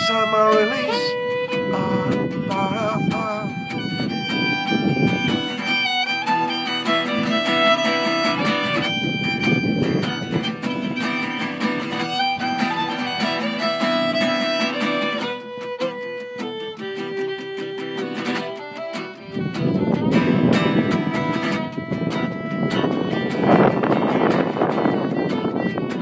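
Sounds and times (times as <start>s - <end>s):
fiddle playing melody: 0.0s - 26.0s
strummed acoustic guitar: 0.0s - 26.0s.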